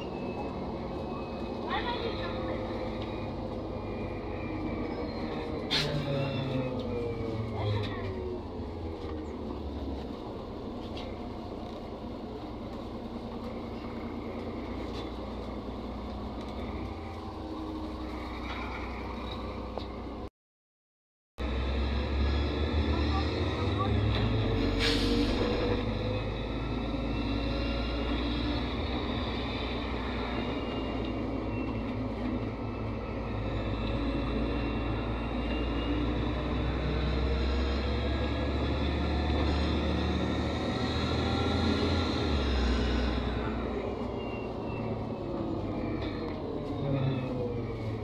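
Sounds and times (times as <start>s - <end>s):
bus engine running: 0.0s - 20.3s, 21.4s - 48.0s
low road rumble: 0.0s - 20.3s, 21.4s - 48.0s.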